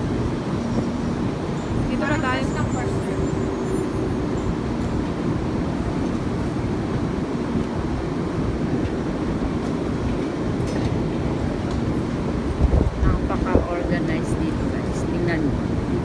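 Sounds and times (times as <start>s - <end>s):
train rumbling and rushing: 0.0s - 16.0s.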